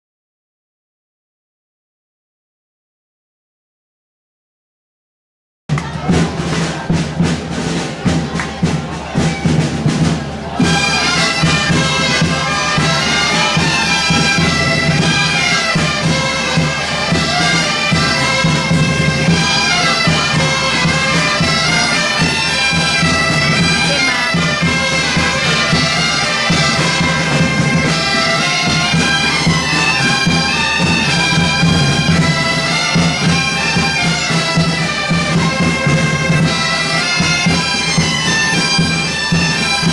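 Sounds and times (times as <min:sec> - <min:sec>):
bagpipes playing a tune: 0:07.6 - 0:39.9.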